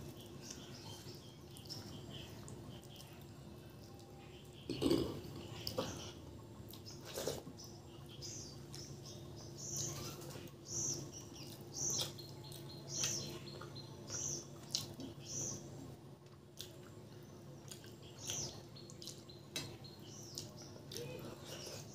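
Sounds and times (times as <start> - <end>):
small bird chirping: 0.0 - 15.9, 16.8 - 21.9
chewing with wet smacks: 0.2 - 9.2, 11.2 - 21.9.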